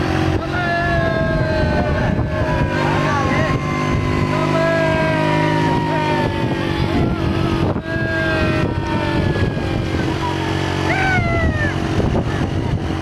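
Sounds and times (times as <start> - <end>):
motorcycle engine running: 0.0 - 13.0
water gushing and splashing: 0.0 - 13.0.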